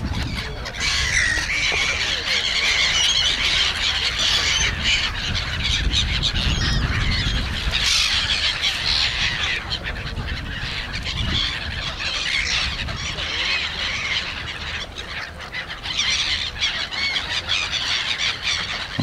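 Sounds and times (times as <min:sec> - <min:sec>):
gulls squawking: 0:00.0 - 0:19.0.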